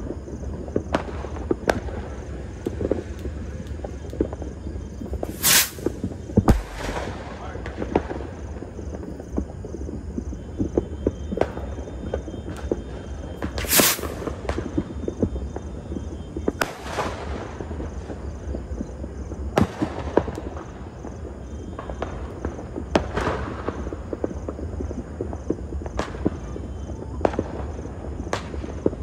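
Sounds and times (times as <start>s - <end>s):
distant fireworks bangs: 0.0s - 29.0s
firecrackers popping: 0.0s - 29.0s.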